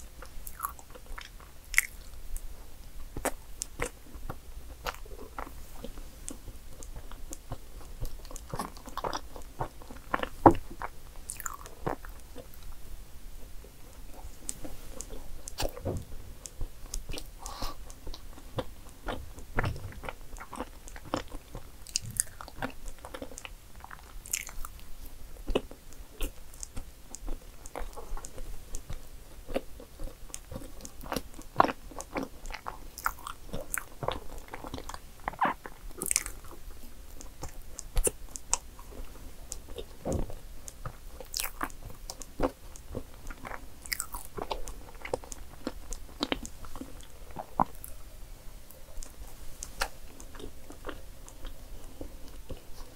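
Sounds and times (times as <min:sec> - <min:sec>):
person chewing cake: 0:00.0 - 0:52.9.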